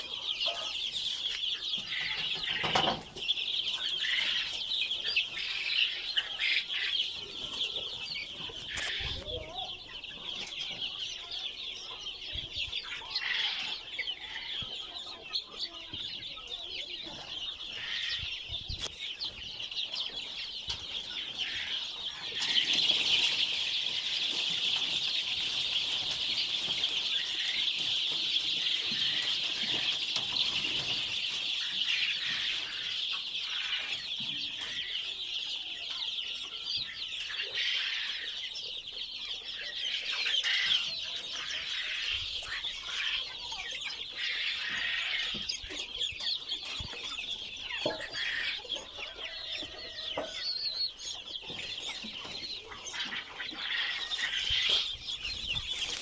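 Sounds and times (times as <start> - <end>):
chickens clucking and cheeping: 0.0 - 56.0.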